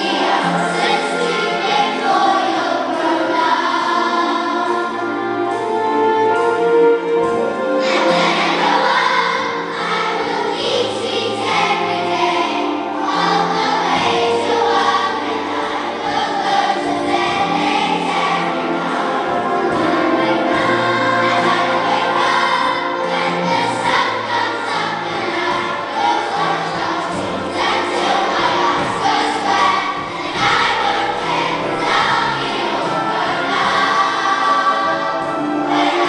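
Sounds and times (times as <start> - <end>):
children's choir singing: 0.0 - 36.0
orchestra playing: 0.0 - 36.0.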